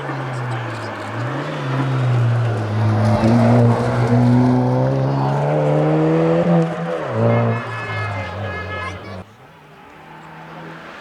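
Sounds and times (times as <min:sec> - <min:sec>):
car engine revving under full throttle: 0:00.0 - 0:09.3.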